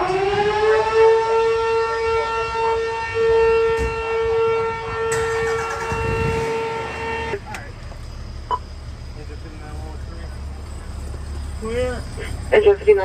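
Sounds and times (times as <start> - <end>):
fire siren wailing: 0.0 - 13.0.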